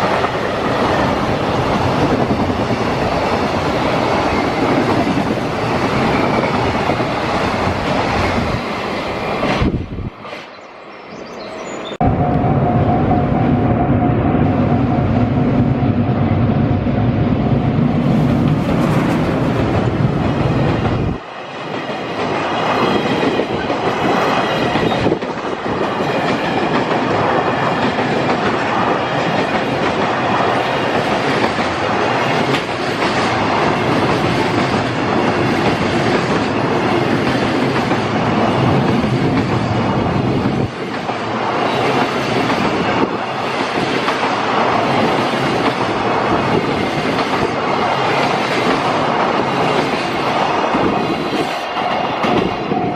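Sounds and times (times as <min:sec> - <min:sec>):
train wagons clickety-clack: 0:00.0 - 0:10.5, 0:18.0 - 0:52.9
heavy train rumble: 0:00.0 - 0:52.9.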